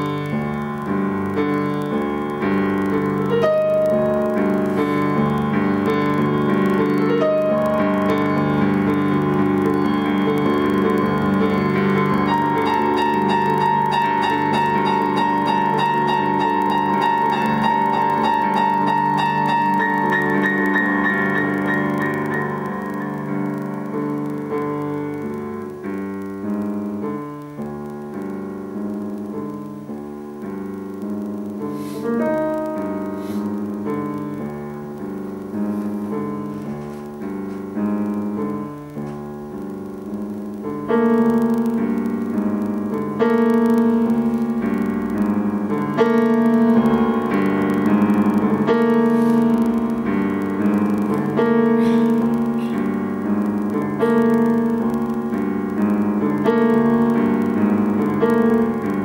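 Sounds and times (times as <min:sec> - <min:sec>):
piano notes and chords: 0:00.0 - 0:59.0.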